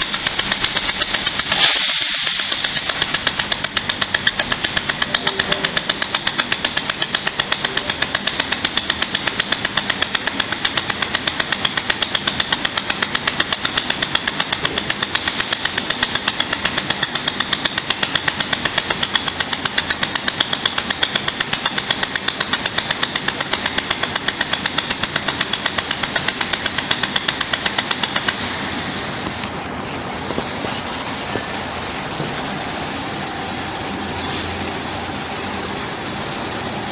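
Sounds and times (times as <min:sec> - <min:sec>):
laser welder ticking: 0:00.0 - 0:29.7
machine hum: 0:00.0 - 0:36.9.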